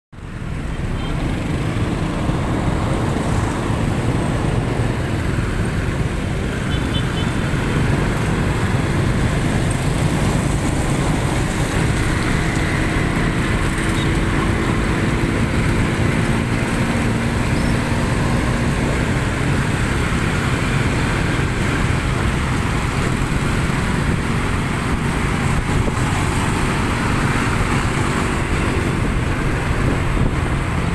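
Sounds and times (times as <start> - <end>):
road traffic rumble: 0.2 - 30.9
vehicles passing: 0.2 - 30.9.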